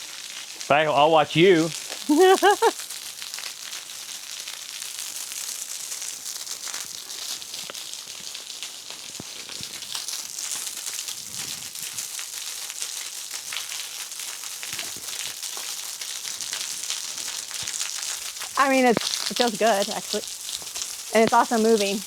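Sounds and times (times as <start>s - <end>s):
waterfall pouring and splashing: 0.0s - 22.0s.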